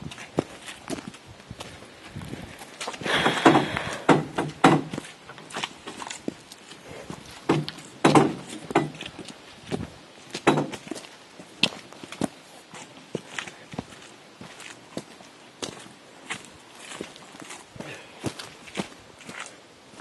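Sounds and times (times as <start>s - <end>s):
footsteps on rocky dirt trail: 0.0s - 20.0s.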